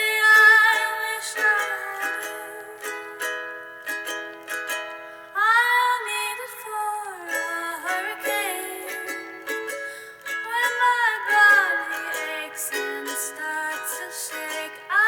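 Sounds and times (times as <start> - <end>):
person singing: 0.0 - 3.5, 5.4 - 15.0
plucked strings: 0.0 - 15.0.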